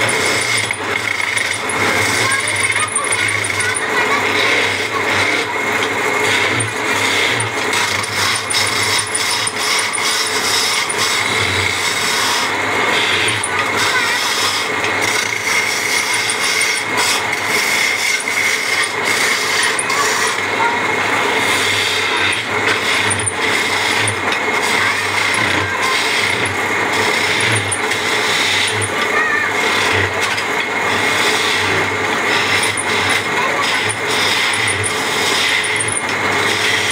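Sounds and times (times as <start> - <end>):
chisel rasping on spinning wood: 0.0 - 36.9
wood lathe whining: 0.0 - 36.9.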